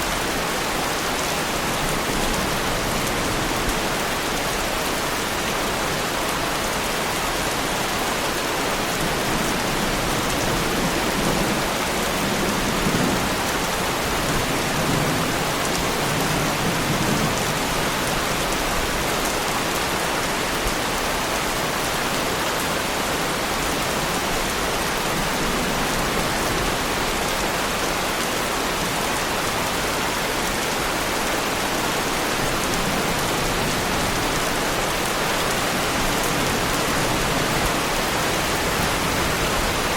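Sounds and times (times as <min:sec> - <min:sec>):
heavy rain on car body: 0:06.8 - 0:39.9.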